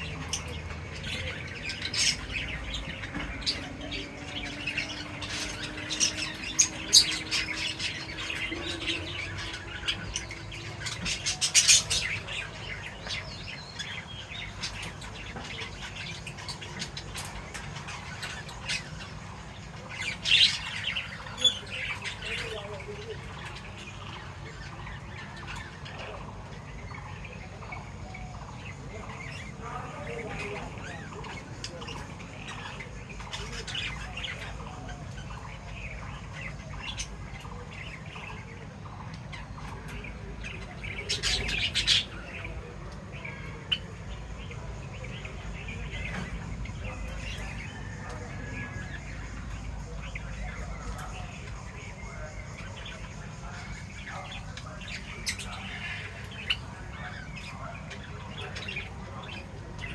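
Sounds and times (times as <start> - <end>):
small birds chirping and squawking: 0.0 - 59.9.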